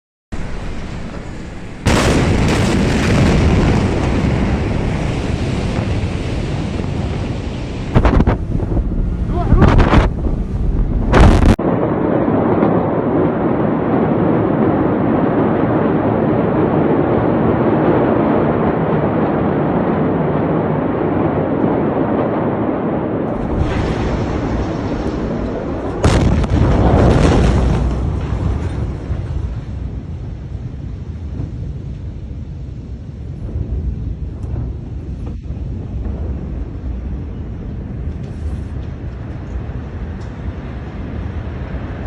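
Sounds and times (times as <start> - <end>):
explosion rumbling roar: 0.4 - 42.0
heavy blasts: 0.4 - 42.0
steady rushing roar: 0.4 - 42.0.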